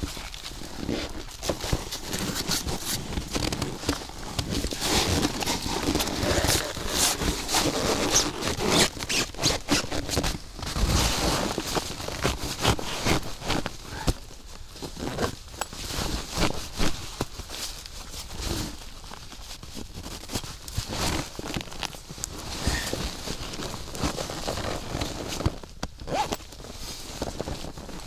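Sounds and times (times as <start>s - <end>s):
nylon sack rustling and scraping: 0.0s - 28.0s.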